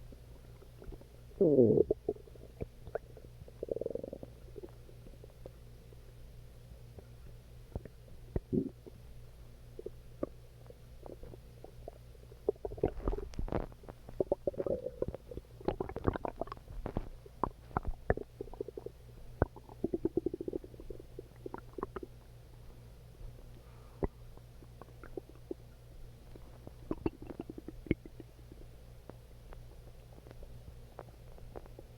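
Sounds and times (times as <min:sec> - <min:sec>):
stomach growling and gurgling: 0:00.0 - 0:05.6, 0:07.0 - 0:09.0, 0:09.7 - 0:22.2, 0:24.0 - 0:28.8, 0:29.5 - 0:31.9.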